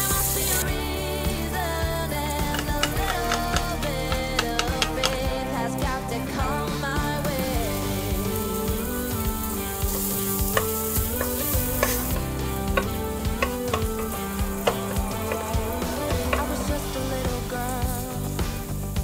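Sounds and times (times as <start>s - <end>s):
ginger and garlic frying: 0.0s - 19.0s
soft background music: 0.0s - 19.0s.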